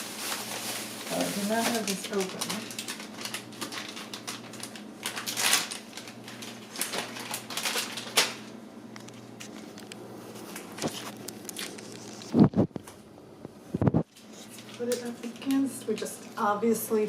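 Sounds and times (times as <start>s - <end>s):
plastic packaging crinkling: 0.0s - 13.0s, 14.0s - 15.7s.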